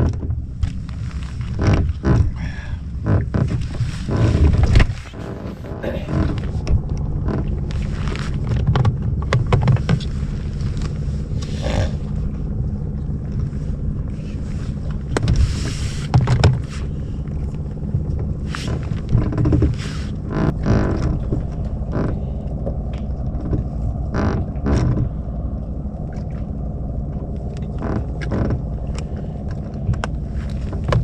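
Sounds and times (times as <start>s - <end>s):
boat engine low rumble: 0.0s - 31.0s
hull knocking and splashing on waves: 0.0s - 31.0s.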